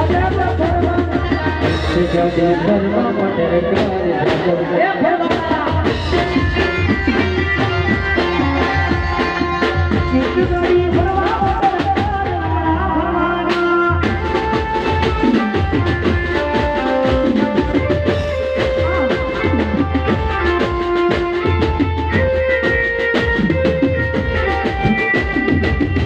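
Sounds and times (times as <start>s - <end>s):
drums keeping a steady beat: 0.0s - 26.0s
held keyboard melody: 0.0s - 26.0s
live band music: 0.0s - 26.0s.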